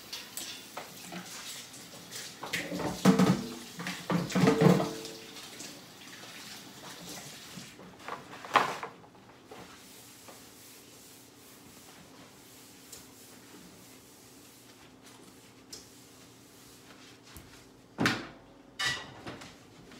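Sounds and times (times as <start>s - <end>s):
low room hum: 0.0s - 19.9s.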